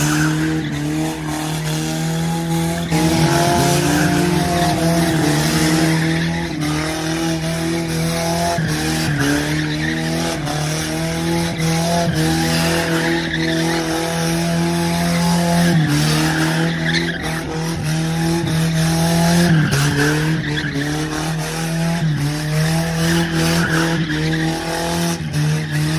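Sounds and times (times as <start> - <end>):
car engine at high revs: 0.0 - 25.9
tyres skidding and squealing: 0.0 - 25.9.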